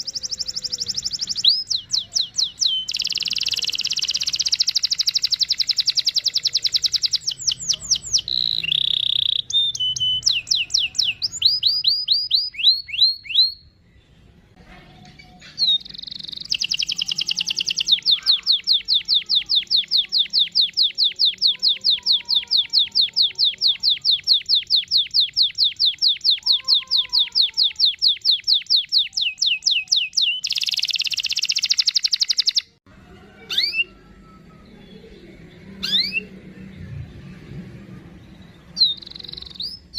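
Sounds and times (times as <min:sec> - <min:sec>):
canary singing trills: 0:00.0 - 0:13.8, 0:15.2 - 0:32.8, 0:33.4 - 0:36.7, 0:38.1 - 0:39.9.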